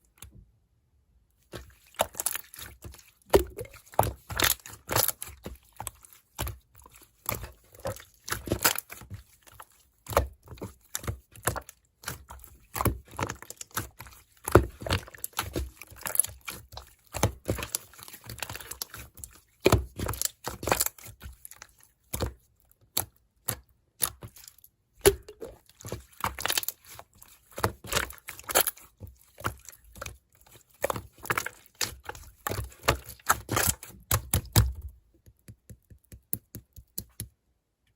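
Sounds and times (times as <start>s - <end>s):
slime squished by hand: 1.4s - 35.0s.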